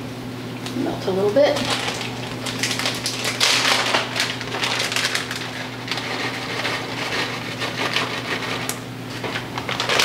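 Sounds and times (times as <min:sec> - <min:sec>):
plastic bag crinkling: 0:01.5 - 0:10.0.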